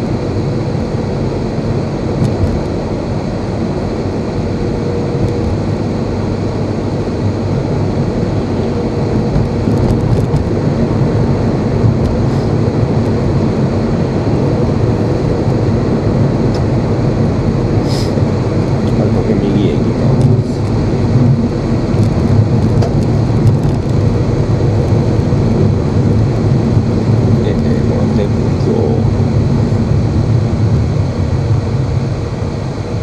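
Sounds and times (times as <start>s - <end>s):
car tyres and engine rumble: 0.0s - 33.0s.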